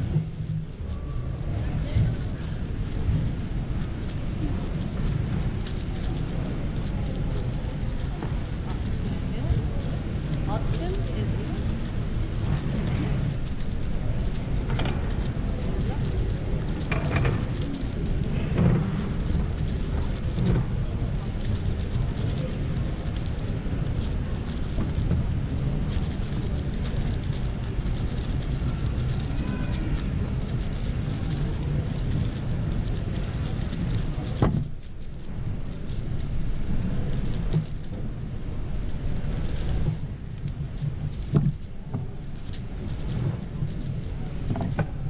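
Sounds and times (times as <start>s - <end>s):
low hall rumble: 0.0s - 45.0s.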